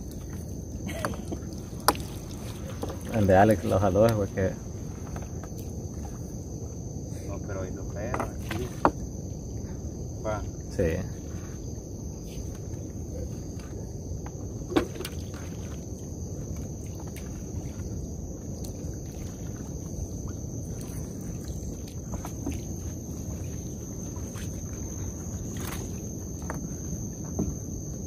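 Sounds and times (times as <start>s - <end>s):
low steady rumble: 0.0s - 28.0s
night insects chorus: 0.0s - 28.0s.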